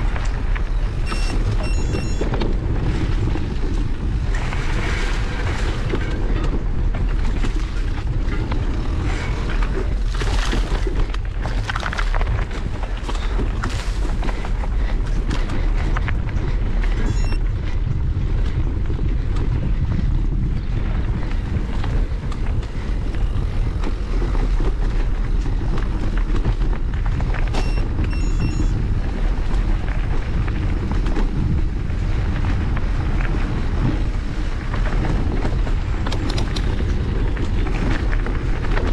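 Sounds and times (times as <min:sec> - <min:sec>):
bike rattling and knocking: 0:00.0 - 0:38.9
bike tyres on dirt: 0:00.0 - 0:38.9
wind rumble on microphone: 0:00.0 - 0:38.9.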